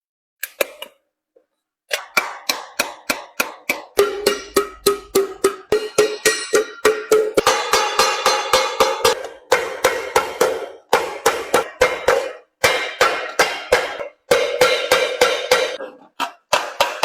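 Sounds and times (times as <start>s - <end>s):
hammer striking sheet metal: 2.0s - 15.8s.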